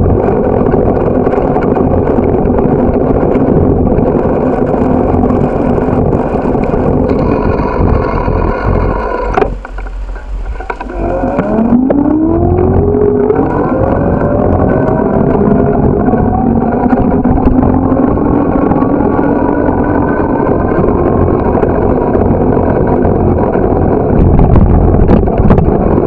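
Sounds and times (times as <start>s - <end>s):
bike riding noise: 0.0s - 26.0s
motor whine rising in pitch: 0.0s - 26.0s
wind on microphone: 0.0s - 26.0s.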